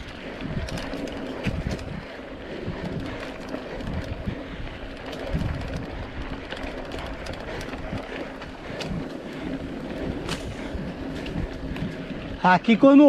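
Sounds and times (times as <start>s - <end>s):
bike knocks and rattles: 0.0s - 12.1s
tyre and wind noise: 0.0s - 13.0s.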